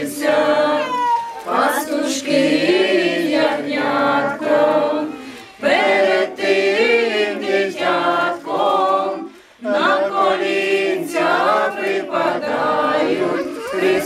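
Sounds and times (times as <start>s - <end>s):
choir singing a cappella carol: 0.0s - 14.0s.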